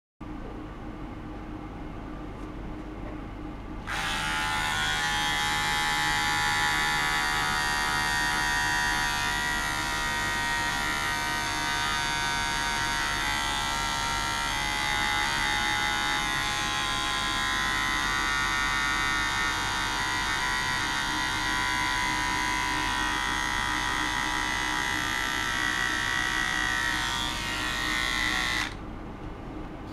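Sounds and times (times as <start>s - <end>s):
low equipment hum: 0.2s - 29.9s
high ultrasonic buzz: 3.8s - 28.8s.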